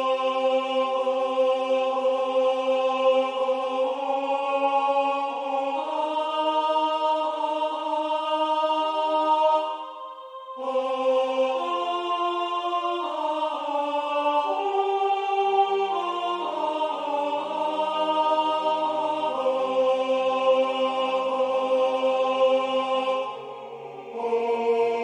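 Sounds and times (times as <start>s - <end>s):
choir singing sustained notes: 0.0s - 25.0s.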